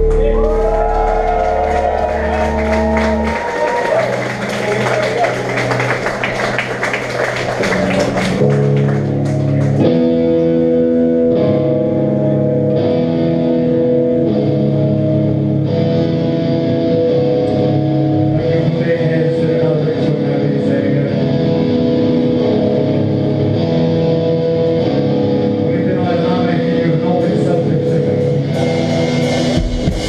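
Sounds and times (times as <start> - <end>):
electric guitar ringing chords: 0.0 - 30.0.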